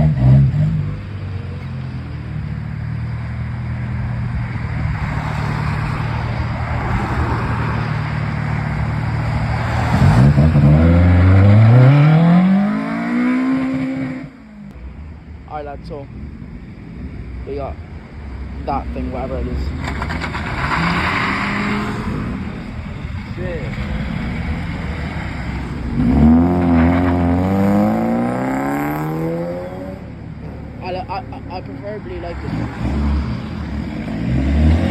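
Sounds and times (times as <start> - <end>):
car engine accelerating: 0.0 - 14.8, 18.7 - 34.9.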